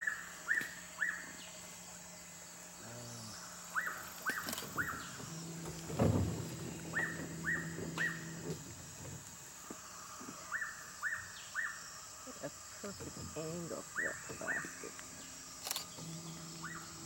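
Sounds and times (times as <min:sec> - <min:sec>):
forest birds chirping: 0:00.0 - 0:17.0
high-pitched insect drone: 0:00.0 - 0:17.0.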